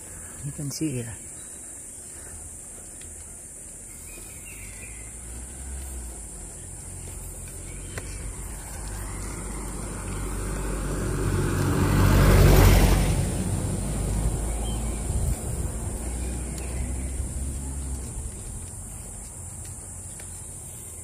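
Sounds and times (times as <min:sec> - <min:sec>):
motor vehicle passing by: 0:03.8 - 0:21.0.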